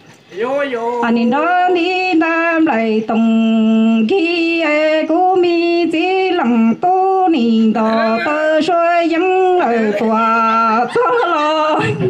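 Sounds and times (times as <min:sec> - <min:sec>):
person singing unaccompanied: 0:01.0 - 0:12.0.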